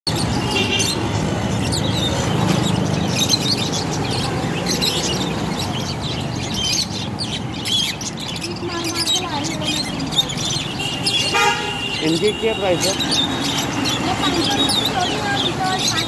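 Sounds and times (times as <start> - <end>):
small cage birds chirping: 0.0 - 16.0.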